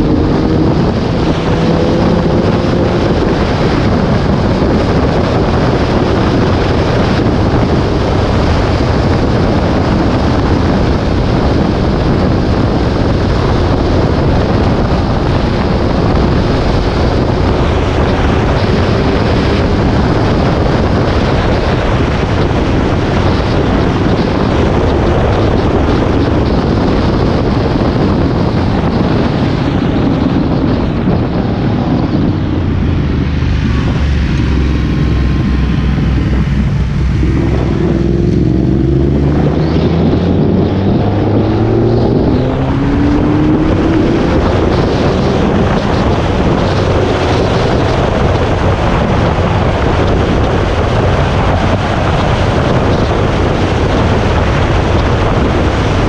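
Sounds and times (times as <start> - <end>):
vehicle engine accelerating: 0.0 - 56.0
wind buffeting microphone: 0.0 - 56.0.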